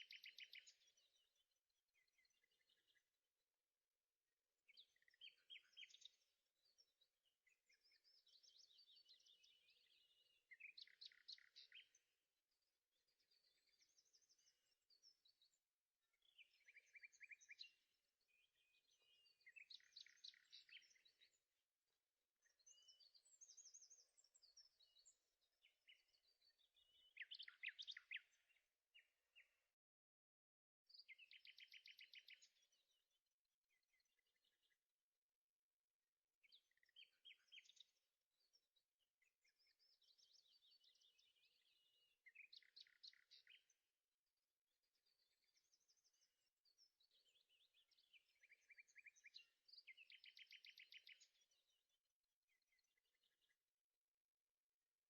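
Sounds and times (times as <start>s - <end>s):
songbird chirping and trilling: 0.0s - 55.0s.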